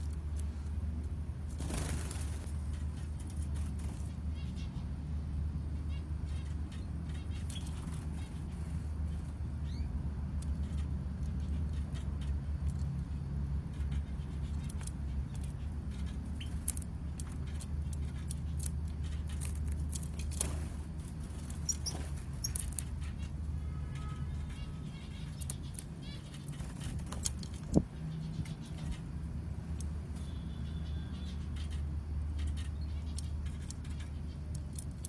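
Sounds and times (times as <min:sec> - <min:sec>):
small birds chirping: 0:00.0 - 0:35.0
steady low hum: 0:00.0 - 0:35.0.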